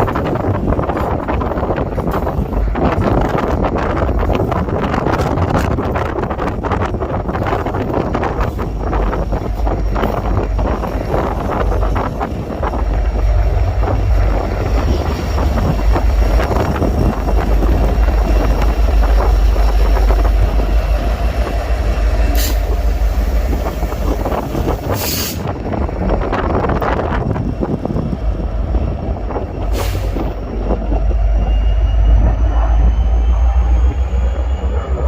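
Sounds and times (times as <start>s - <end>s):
freight train rumbling past: 0.0s - 35.0s
wheels clattering on rail: 0.0s - 35.0s.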